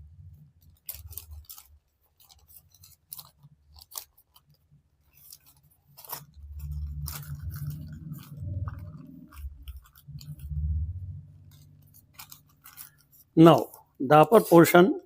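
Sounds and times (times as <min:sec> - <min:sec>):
paper crinkling: 0:00.0 - 0:14.8.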